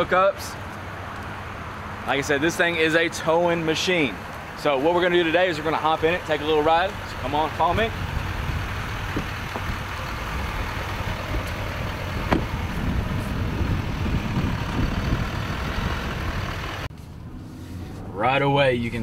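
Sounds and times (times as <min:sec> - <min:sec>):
diesel truck engine idling: 0:00.0 - 0:17.6.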